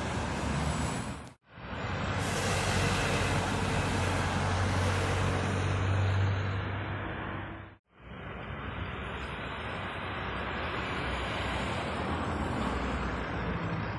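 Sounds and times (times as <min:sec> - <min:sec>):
street traffic noise: 0:00.0 - 0:13.9.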